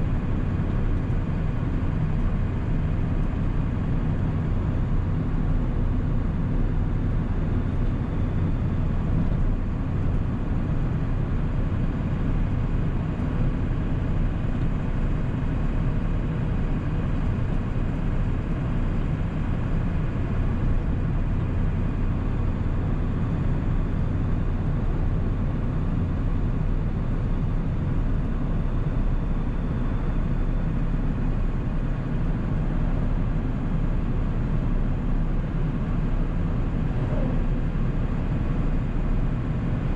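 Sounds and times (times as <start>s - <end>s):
diesel truck engine drone: 0.0s - 39.9s.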